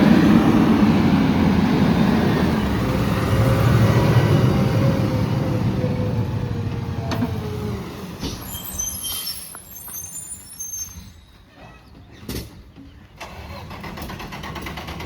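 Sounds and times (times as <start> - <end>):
refuse truck engine pulling away: 0.0 - 12.5, 13.1 - 15.0.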